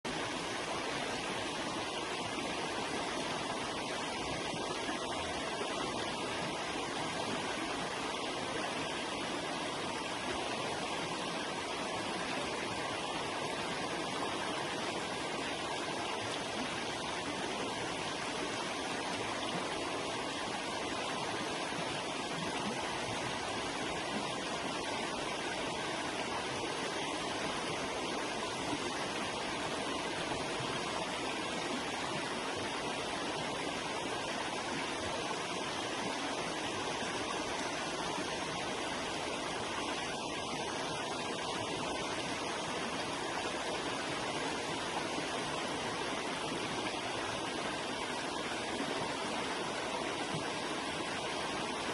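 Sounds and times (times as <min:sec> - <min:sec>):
river water rushing over rocks: 0:00.1 - 0:51.9.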